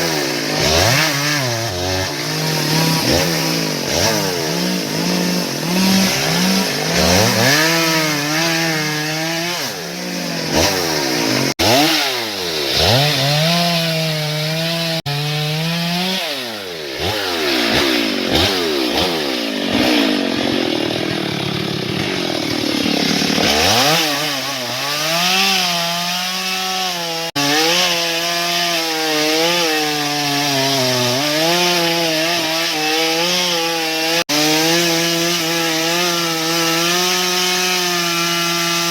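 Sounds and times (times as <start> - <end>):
chainsaw cutting into wood: 0.0 - 38.9.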